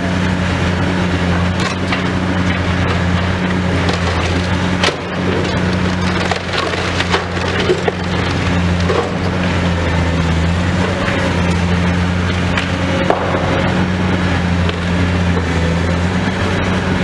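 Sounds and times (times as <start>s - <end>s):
excavator engine running: 0.0s - 17.0s
building material cracking: 1.4s - 16.5s.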